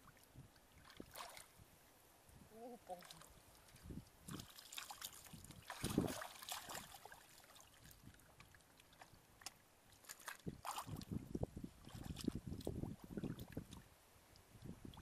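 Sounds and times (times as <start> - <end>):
splashing in shallow muddy water: 0.0 - 1.6, 2.8 - 15.0.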